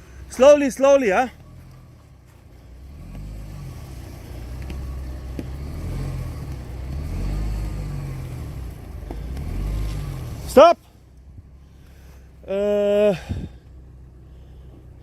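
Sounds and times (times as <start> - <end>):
truck engine at low revs: 0.0 - 15.0.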